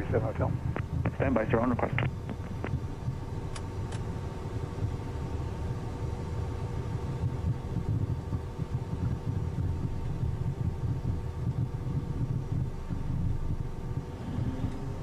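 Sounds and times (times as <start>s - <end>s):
jet engine low rumble: 0.0s - 15.0s
steady hum: 0.0s - 15.0s.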